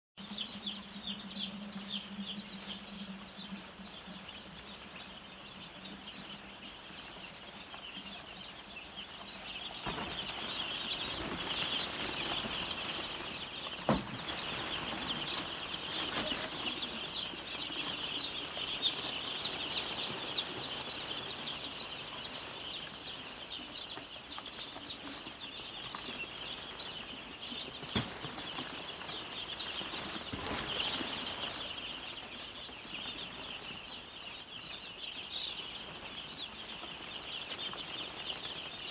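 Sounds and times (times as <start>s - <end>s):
chicks peeping: 0.2s - 38.9s.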